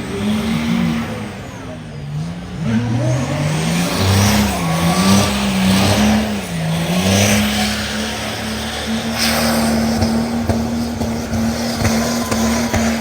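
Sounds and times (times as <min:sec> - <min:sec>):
pickup truck engine revving: 0:00.0 - 0:13.0.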